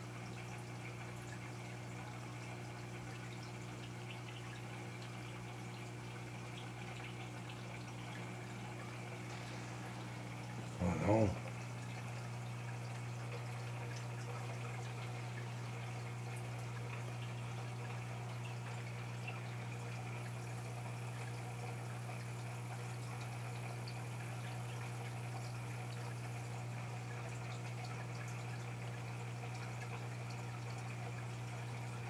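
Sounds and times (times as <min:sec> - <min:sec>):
aquarium filter humming: 0:00.0 - 0:32.0
water trickling: 0:00.0 - 0:32.0.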